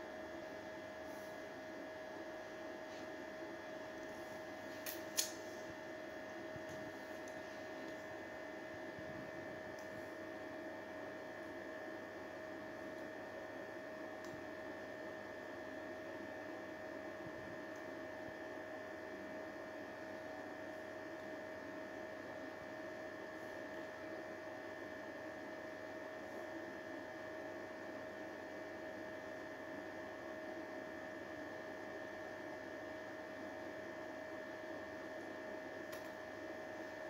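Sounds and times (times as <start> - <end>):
electrical hum: 0.0 - 37.0.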